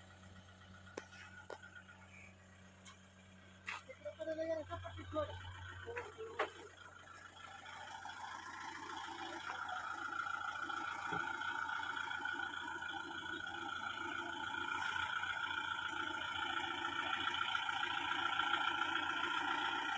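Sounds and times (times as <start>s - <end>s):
tractor diesel engine under load: 0.0s - 19.9s.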